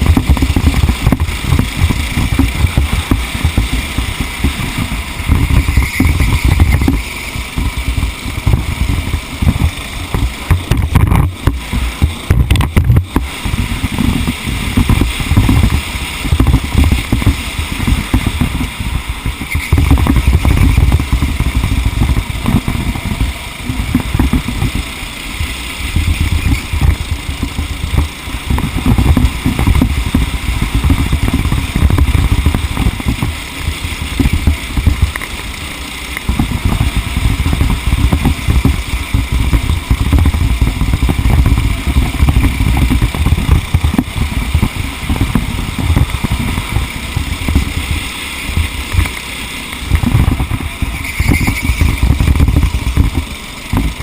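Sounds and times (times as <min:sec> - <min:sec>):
low rumble on microphone: 0:00.0 - 0:35.2, 0:36.2 - 0:49.1, 0:49.8 - 0:54.0
racing kart engine: 0:00.0 - 0:54.0.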